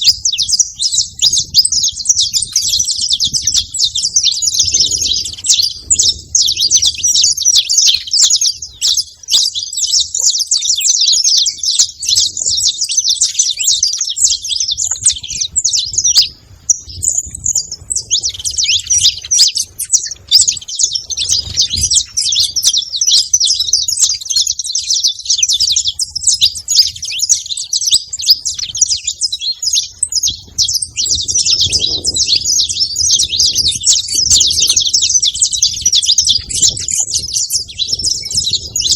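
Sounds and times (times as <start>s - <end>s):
finch chirping: 0.0s - 38.9s.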